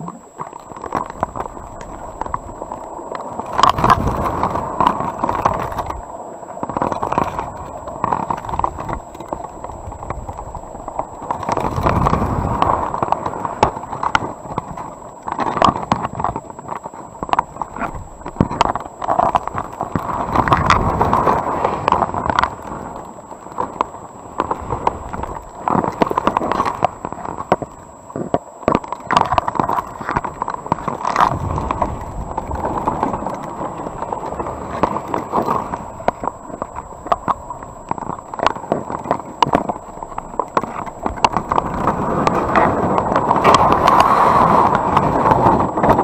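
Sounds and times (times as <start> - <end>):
muffled underwater rushing: 0.0 - 46.0.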